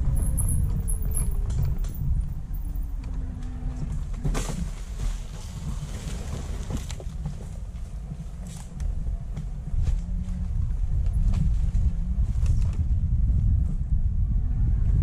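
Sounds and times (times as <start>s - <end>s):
low rumble of camera shaking: 0.0s - 15.0s.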